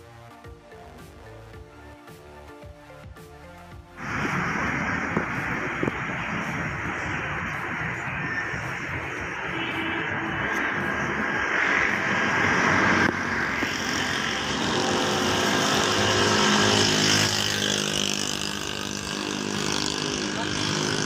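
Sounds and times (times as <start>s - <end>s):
passing vehicle engine hum: 4.0s - 21.0s.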